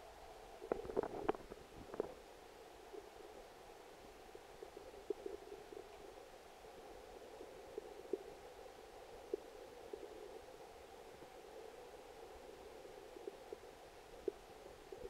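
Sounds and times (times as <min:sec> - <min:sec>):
muffled underwater creek murmur: 0:00.0 - 0:15.0.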